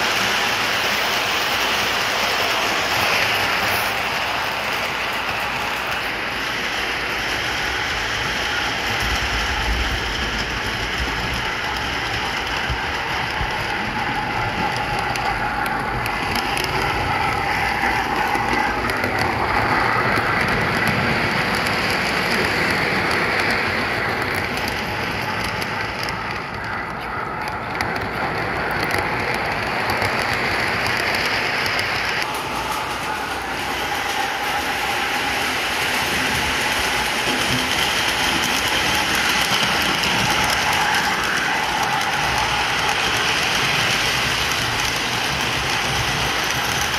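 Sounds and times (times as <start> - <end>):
model train wheels rumbling on rails: 0.0 - 46.9.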